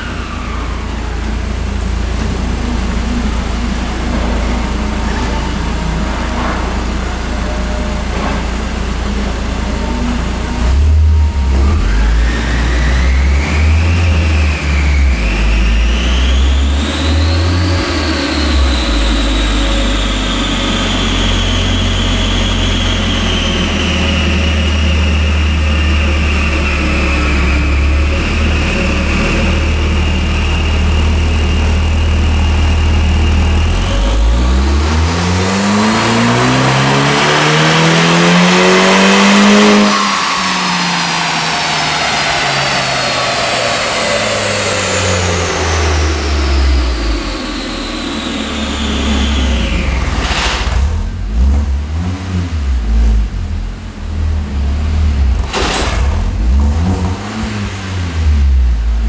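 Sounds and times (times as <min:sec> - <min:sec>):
car engine on dynamometer: 0:00.0 - 0:59.0
high whine: 0:00.0 - 0:59.0.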